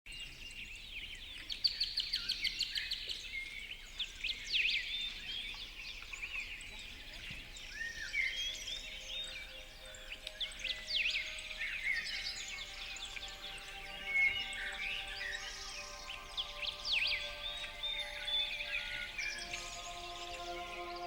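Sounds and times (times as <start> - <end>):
songbirds singing and calling: 0.1 - 21.0.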